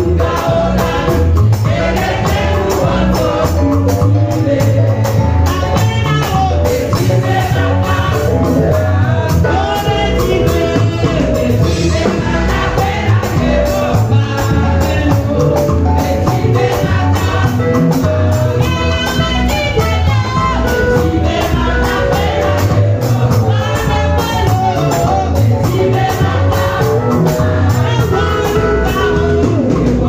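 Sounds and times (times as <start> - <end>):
people singing over beat: 0.0 - 30.0.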